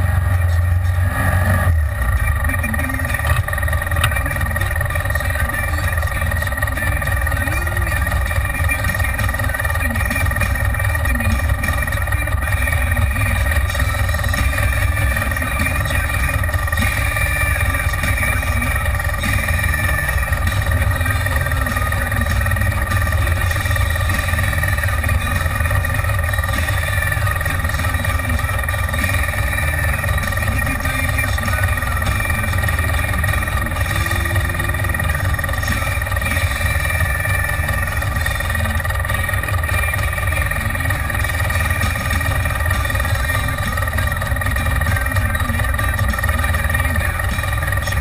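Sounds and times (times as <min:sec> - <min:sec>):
utv engine idling: 0:00.0 - 0:48.0.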